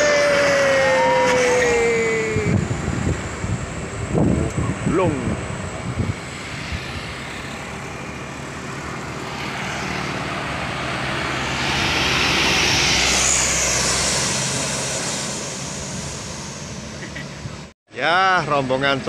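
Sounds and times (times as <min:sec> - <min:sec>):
truck passing by: 0:00.0 - 0:17.8.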